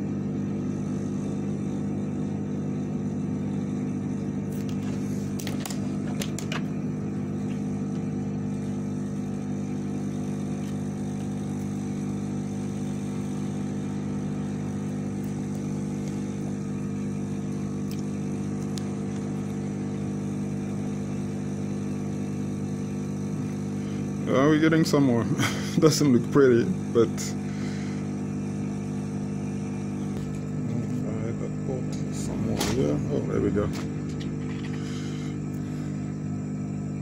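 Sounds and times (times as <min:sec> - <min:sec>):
small electric motor humming: 0:00.0 - 0:37.0.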